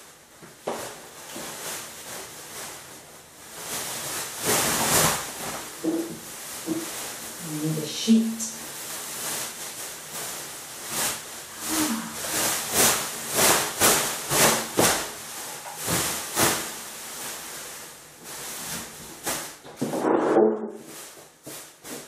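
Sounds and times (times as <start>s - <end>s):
plastic sheet rustling and crackling: 0.0s - 22.0s.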